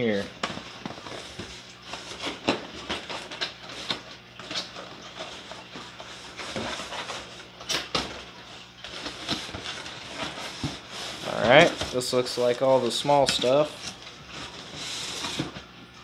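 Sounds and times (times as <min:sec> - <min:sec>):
cardboard boxes scraping and rustling: 0:00.4 - 0:15.8.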